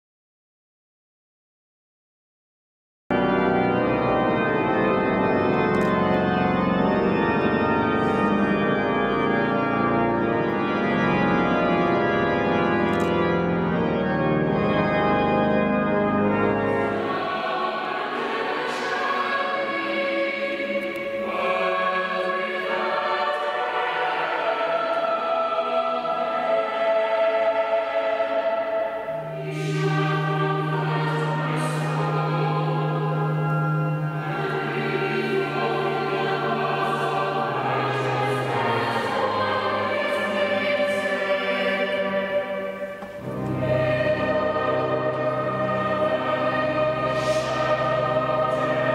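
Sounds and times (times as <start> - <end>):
church choir singing: 3.1 - 48.9
pipe organ playing: 3.1 - 48.9.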